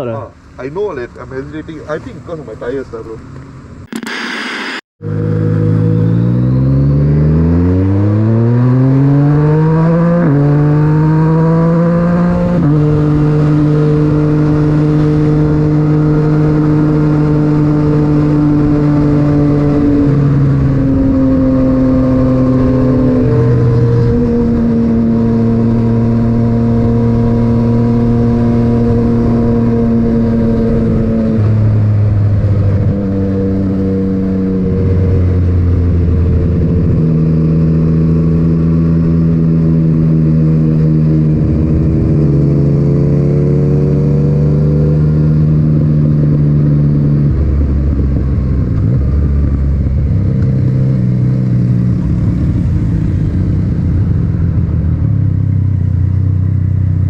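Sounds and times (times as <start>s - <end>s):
motorcycle engine revving: 5.0s - 57.0s.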